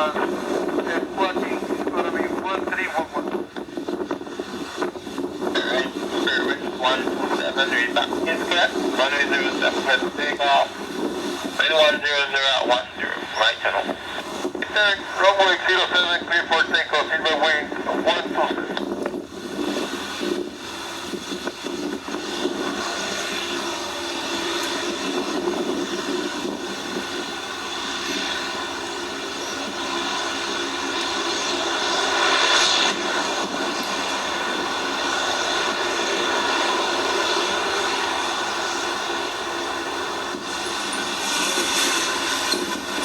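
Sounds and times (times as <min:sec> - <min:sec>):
jet engines at takeoff: 0:00.0 - 0:43.0.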